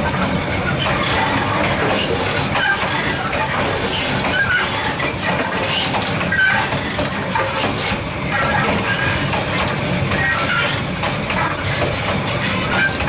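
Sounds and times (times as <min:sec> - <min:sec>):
train wheels rumbling on rail: 0:00.0 - 0:13.0
high-pitched metallic squeaks: 0:00.4 - 0:13.0.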